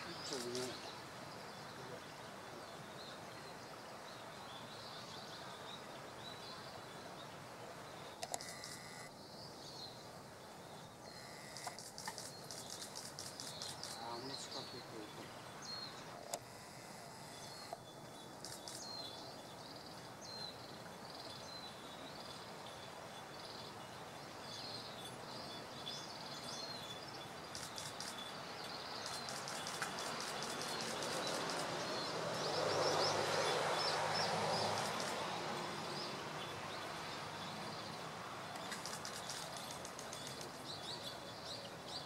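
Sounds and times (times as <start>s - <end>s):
outdoor background noise: 0.0s - 42.0s.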